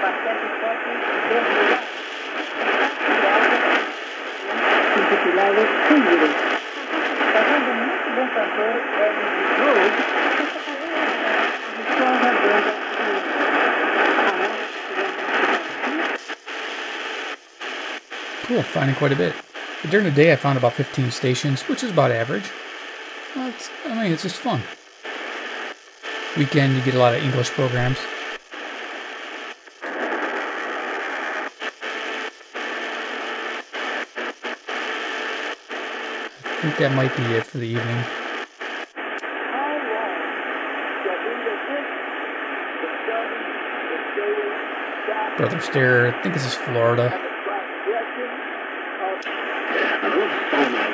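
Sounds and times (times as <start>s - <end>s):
voice on radio speaker: 0.0s - 17.0s, 18.2s - 22.6s, 23.2s - 24.8s, 25.4s - 28.3s, 29.8s - 31.2s, 35.8s - 38.2s, 39.2s - 50.9s
radio static and hiss: 0.0s - 50.9s.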